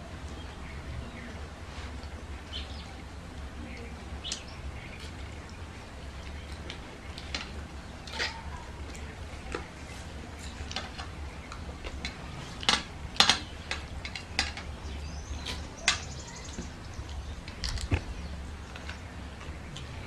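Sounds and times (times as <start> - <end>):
low steady hum: 0.0 - 20.0
people chewing: 0.0 - 20.0.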